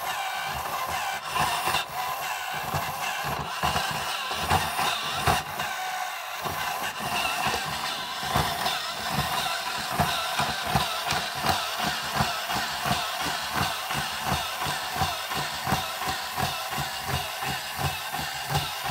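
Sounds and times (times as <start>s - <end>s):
toy robot motor whirring: 0.0s - 18.9s.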